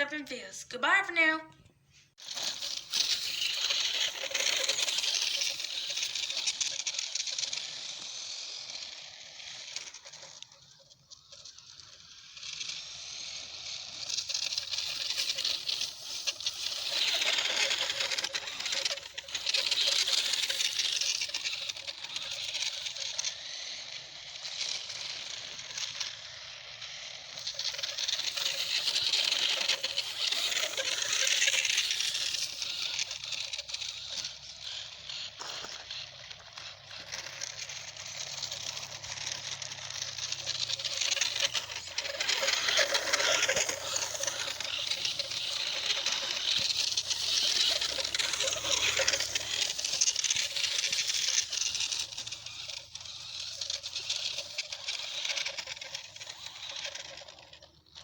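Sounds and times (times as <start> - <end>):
toy car rattling over rough ground: 2.2 - 58.0.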